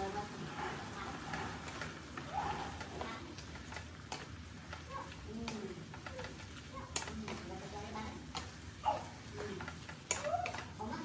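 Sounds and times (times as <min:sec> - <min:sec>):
food frying in a wok: 0:00.0 - 0:11.0
wooden spatula scraping a wok: 0:00.0 - 0:11.0.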